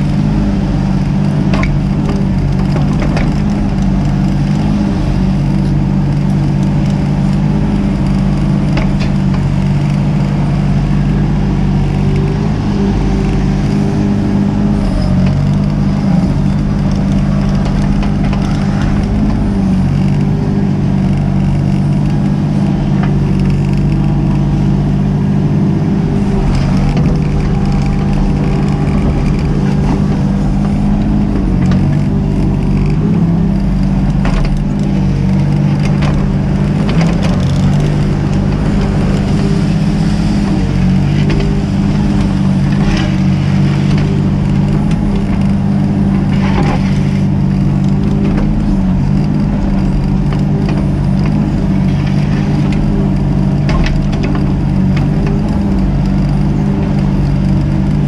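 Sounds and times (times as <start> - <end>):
digging knocks and scrapes: 0.0 - 58.0
excavator diesel engine running: 0.0 - 58.0.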